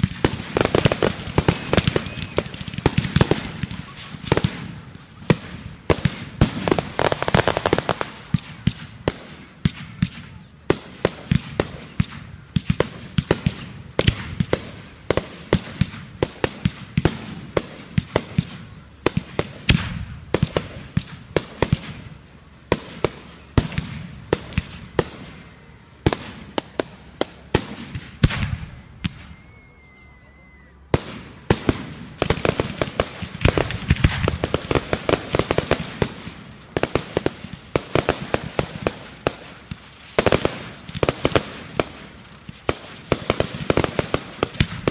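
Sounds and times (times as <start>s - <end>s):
fireworks bangs and pops: 0.0s - 29.4s, 30.9s - 44.9s.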